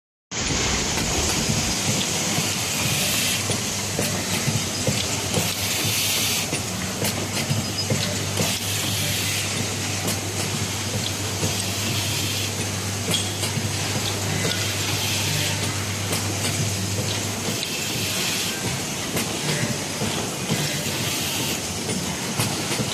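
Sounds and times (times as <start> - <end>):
spot-welding machine hum with hiss: 0.4 - 22.9.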